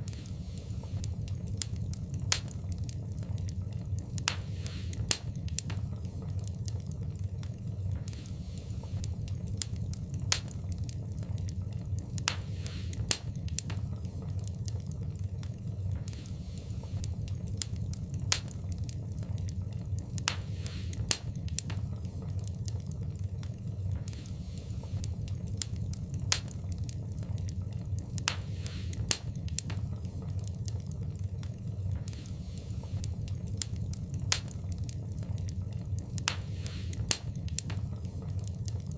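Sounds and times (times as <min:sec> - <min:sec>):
fire crackles and pops: 0:00.0 - 0:38.9
wood fire rumbling: 0:00.0 - 0:38.9.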